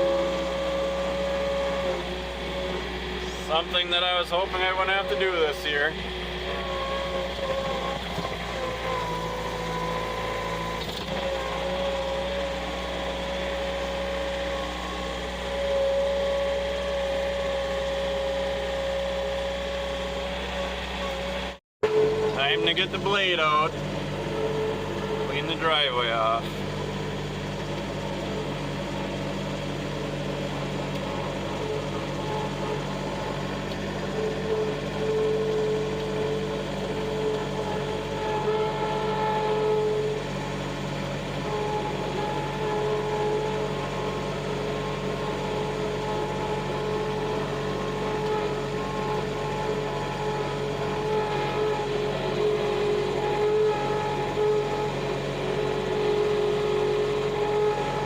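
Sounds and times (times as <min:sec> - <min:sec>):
high whine: 0:00.0 - 0:58.0
tractor engine running: 0:00.0 - 0:58.0.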